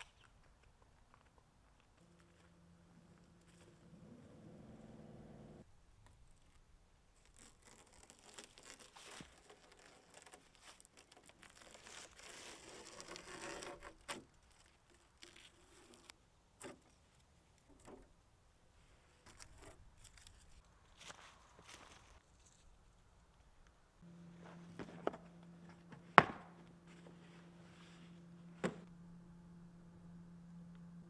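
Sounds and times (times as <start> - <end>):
crinkling and rustling: 0.0 - 4.9, 6.0 - 18.2, 18.8 - 28.9.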